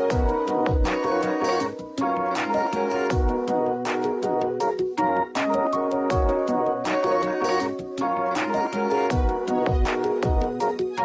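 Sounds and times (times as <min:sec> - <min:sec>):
synth chords over deep beat: 0:00.0 - 0:11.0.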